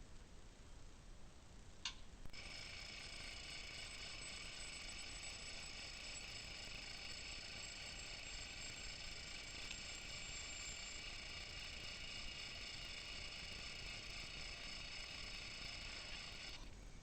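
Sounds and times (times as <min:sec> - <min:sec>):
thin high constant tones: 0:02.3 - 0:16.6.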